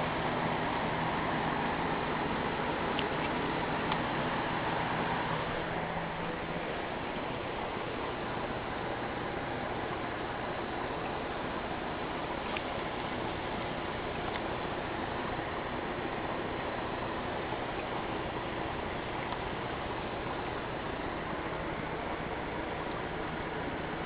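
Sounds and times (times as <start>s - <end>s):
aquarium filter water hiss: 0.0s - 24.0s.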